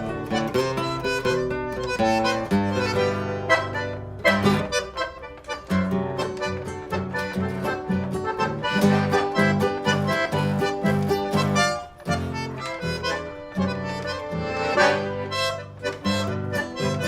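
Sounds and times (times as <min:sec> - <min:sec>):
accordion melody: 0:00.0 - 0:17.0
plucked guitar: 0:00.0 - 0:17.0.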